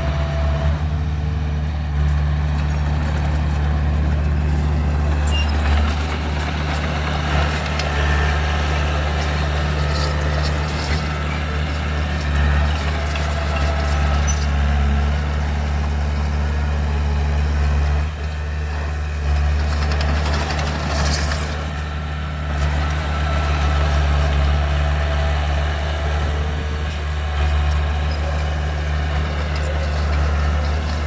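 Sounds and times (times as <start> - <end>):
heavy diesel engine droning: 0.0 - 31.0.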